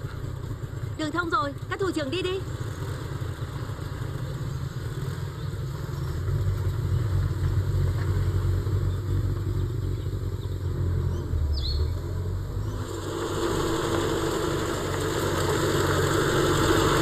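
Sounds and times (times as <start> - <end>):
jeep engine rumbling: 0.0 - 17.0.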